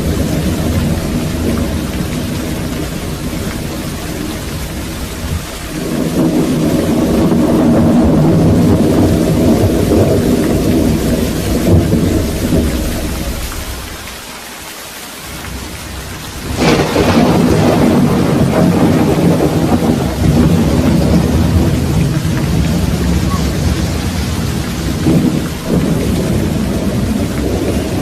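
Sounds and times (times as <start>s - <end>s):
sharp thunderclap: 0.0s - 14.0s, 15.4s - 28.0s
deep rumble of thunder: 0.0s - 14.2s, 15.2s - 28.0s
steady rain: 0.0s - 28.0s.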